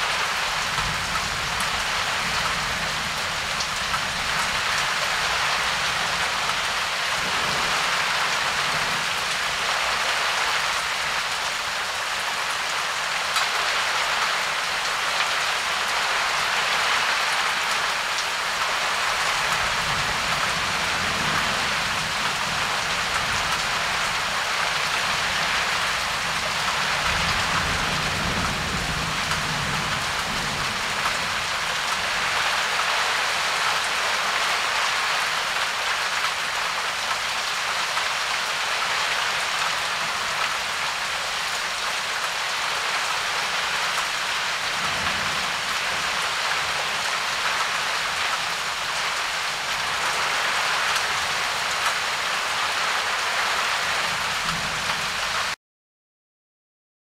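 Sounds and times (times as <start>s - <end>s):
heavy rain: 0.0s - 55.6s.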